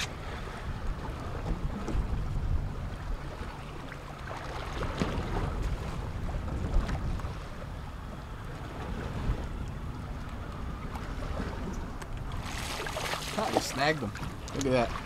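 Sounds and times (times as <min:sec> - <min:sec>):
wind on microphone: 0:00.0 - 0:03.8, 0:04.7 - 0:15.0
waves washing against boat: 0:00.0 - 0:15.0.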